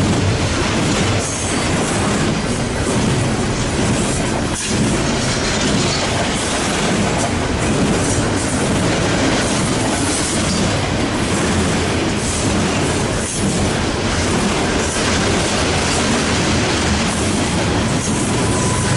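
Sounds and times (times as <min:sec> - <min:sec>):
freight train rumbling past: 0:00.0 - 0:18.9
wheels clacking over rail joints: 0:00.0 - 0:18.9.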